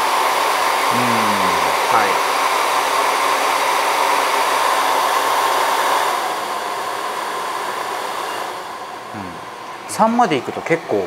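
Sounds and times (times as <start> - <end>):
hair dryer running: 0.0 - 8.9.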